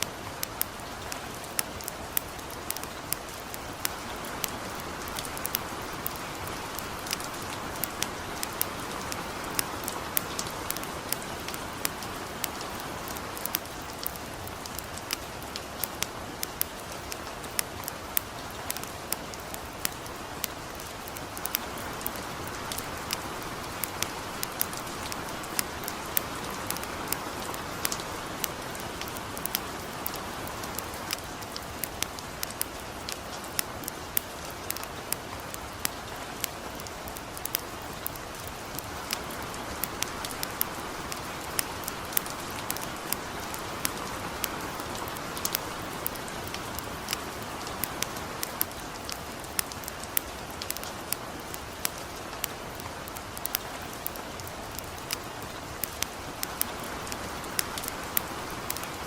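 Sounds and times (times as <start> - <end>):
campfire crackling: 0.0 - 59.0
light rain falling: 0.0 - 59.0.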